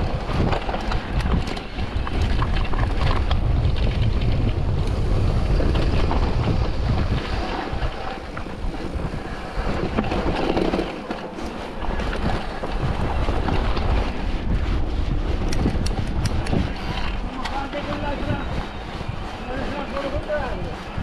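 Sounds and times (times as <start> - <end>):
bike clicks and rattles: 0.0 - 21.0
wind buffeting the microphone: 0.0 - 21.0.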